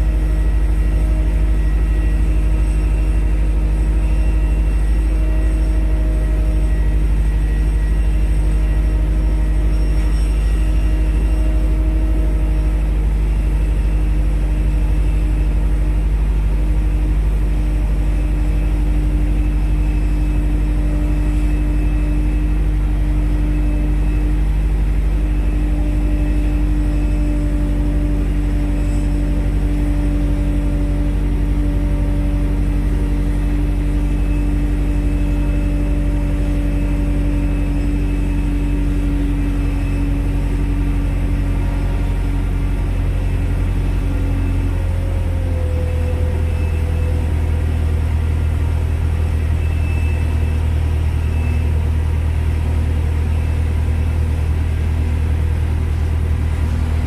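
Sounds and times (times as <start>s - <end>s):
tow tractor diesel engine drone: 0.0s - 57.0s.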